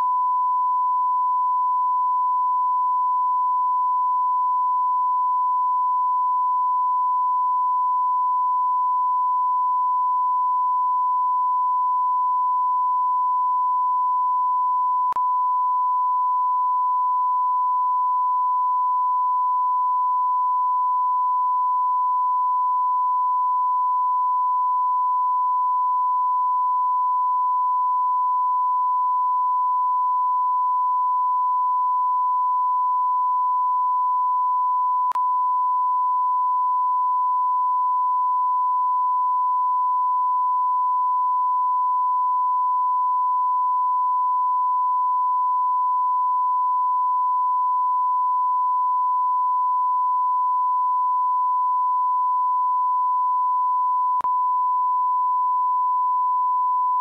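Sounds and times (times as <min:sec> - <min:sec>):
sine-wave test tone: 0:00.0 - 0:57.0.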